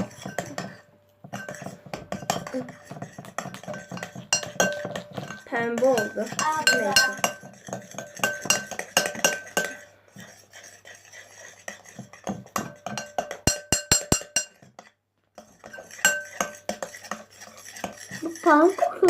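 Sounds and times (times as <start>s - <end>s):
spoon stirring slime in container: 0.0s - 19.0s.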